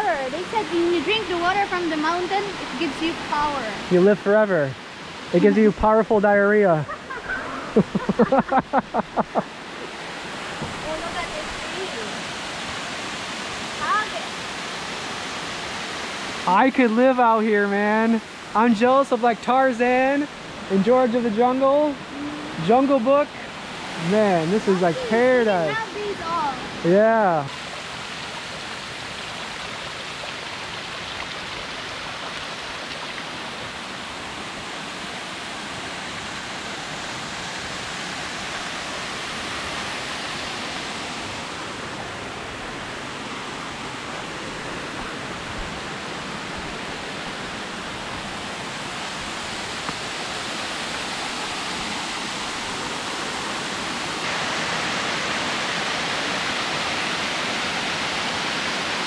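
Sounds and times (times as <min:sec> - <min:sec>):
waterfall cascading over rock: 0:00.0 - 0:59.0.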